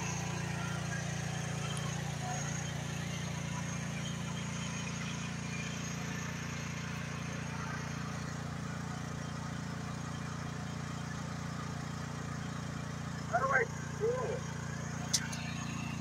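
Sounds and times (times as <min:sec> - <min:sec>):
mini excavator engine running: 0:00.0 - 0:16.0.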